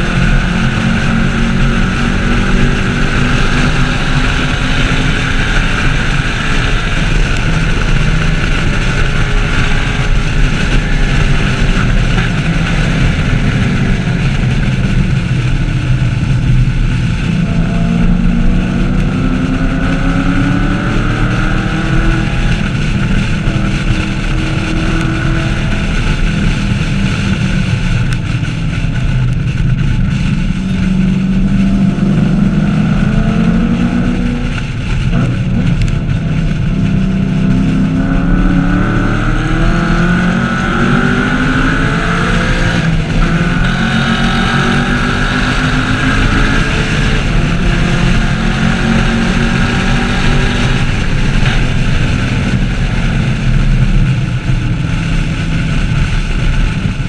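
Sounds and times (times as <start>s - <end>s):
car engine revving on racetrack: 0.0s - 57.0s.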